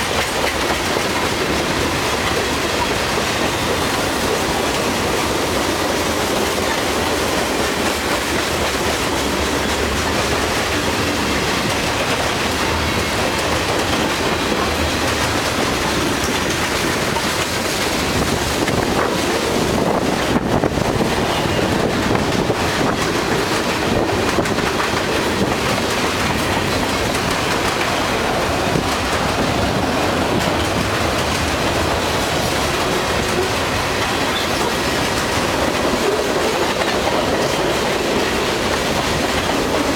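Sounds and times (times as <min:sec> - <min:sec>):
clickety-clack over rail joints: 0:00.0 - 0:39.9
freight train wheel noise: 0:00.0 - 0:39.9.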